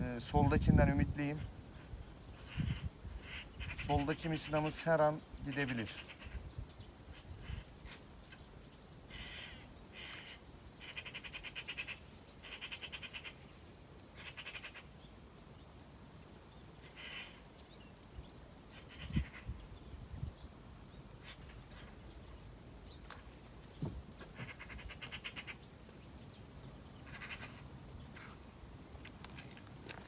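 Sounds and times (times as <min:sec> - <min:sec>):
bird calling: 0:01.4 - 0:15.2, 0:16.1 - 0:20.0, 0:20.9 - 0:28.5.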